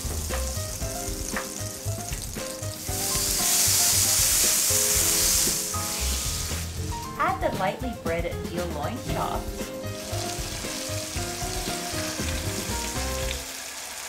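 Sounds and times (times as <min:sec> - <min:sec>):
butter sizzling in hot oil: 0:00.0 - 0:07.7, 0:09.0 - 0:14.0.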